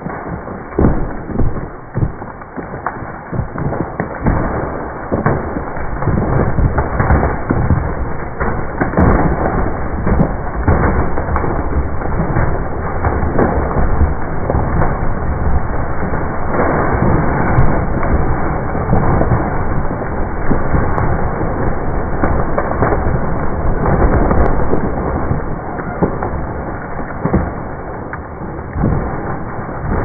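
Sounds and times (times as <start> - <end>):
tree wood cracking and popping: 0.0 - 30.0.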